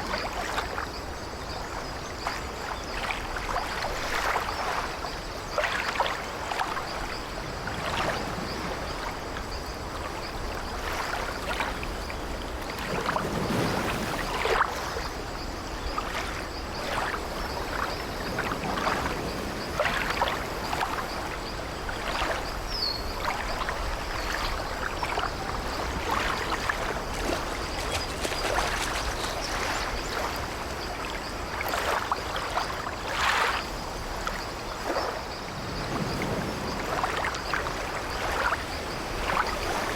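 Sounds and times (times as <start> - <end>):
sea waves lapping against ship: 0.0 - 39.9.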